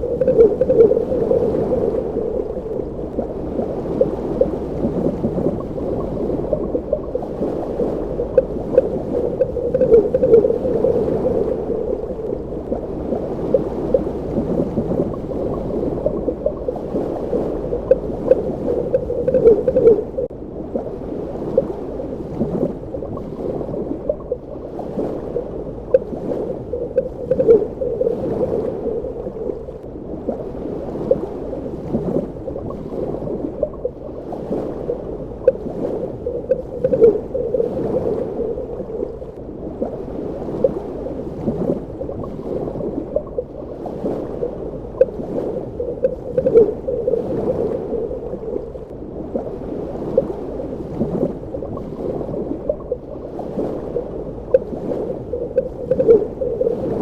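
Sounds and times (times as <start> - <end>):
small underwater pops and crackles: 0.0 - 20.3, 22.3 - 57.0
muffled underwater water rush: 0.0 - 57.0.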